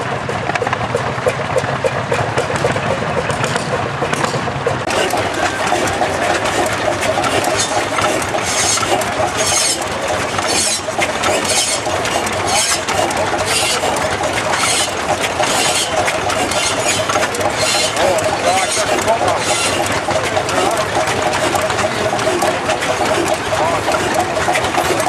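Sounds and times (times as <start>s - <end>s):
tractor engines running: 0.0s - 25.0s.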